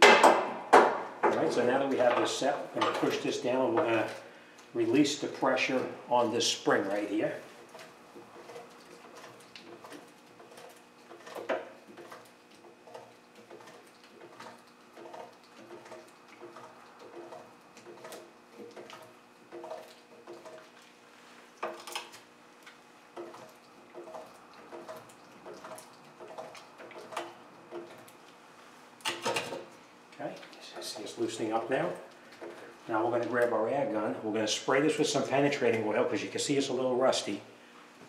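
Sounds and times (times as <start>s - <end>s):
faint steady hum: 0.1s - 38.0s.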